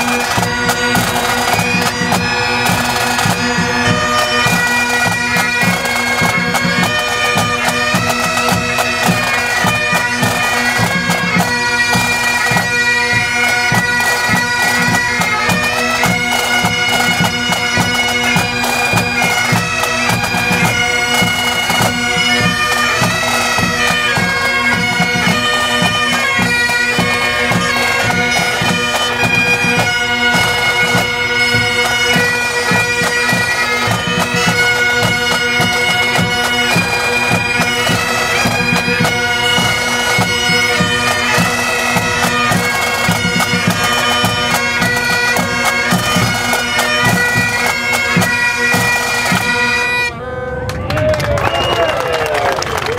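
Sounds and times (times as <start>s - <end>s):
drums beating: 0.0s - 49.6s
bagpipes playing a tune: 0.0s - 50.7s
bagpipe drones: 0.0s - 50.9s.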